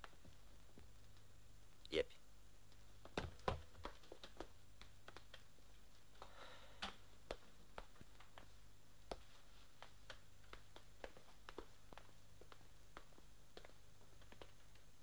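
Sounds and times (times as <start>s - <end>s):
knocks and taps of people moving: 2.7s - 14.9s.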